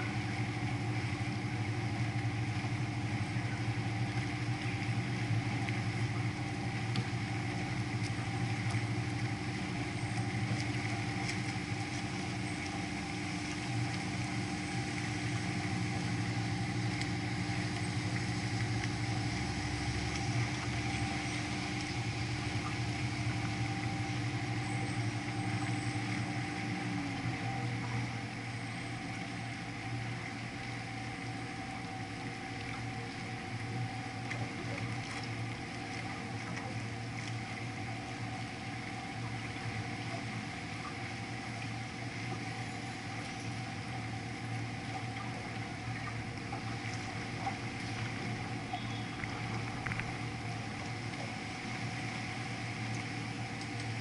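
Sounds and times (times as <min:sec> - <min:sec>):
boat engine humming: 0:00.0 - 0:54.0
steady engine tone: 0:00.0 - 0:54.0.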